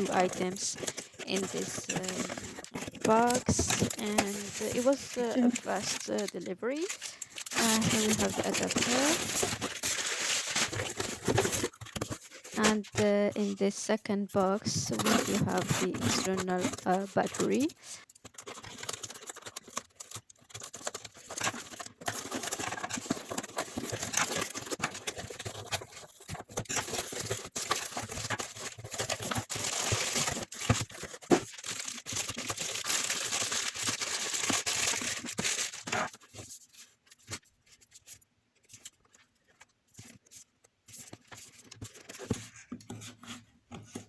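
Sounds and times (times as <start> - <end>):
packaging clicks and handling: 0.0 - 13.5, 14.4 - 44.0
plastic wrap and cardboard tearing: 0.0 - 13.6, 14.4 - 37.4.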